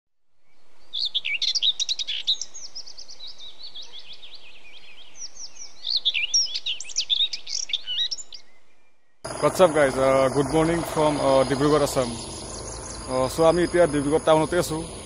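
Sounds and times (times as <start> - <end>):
small birds chirping: 0.8 - 15.0.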